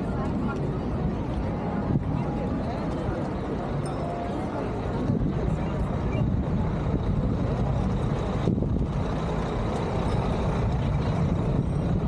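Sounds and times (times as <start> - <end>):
heavy vehicles passing: 0.0 - 12.0
road traffic rumble: 0.0 - 12.0.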